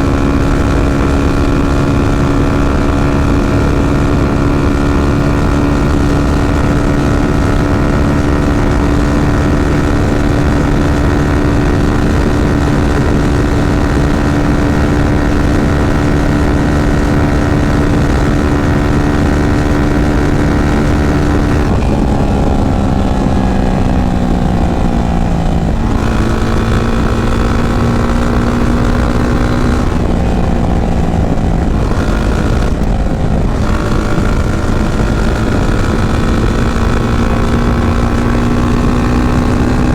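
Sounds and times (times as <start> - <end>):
motorcycle engine cruising: 0.0 - 39.9
road noise: 0.0 - 39.9
wind noise: 0.0 - 39.9.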